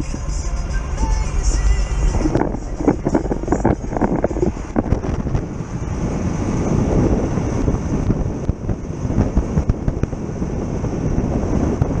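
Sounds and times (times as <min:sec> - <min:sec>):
diesel engine running: 0:00.0 - 0:12.0
vehicle rumbling on dirt road: 0:00.0 - 0:12.0
wind buffeting microphone: 0:01.7 - 0:12.0.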